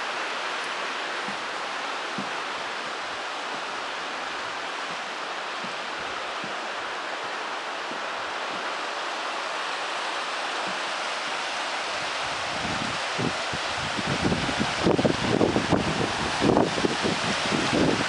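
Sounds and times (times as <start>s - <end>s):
creek flowing over rocks: 0.0s - 18.0s.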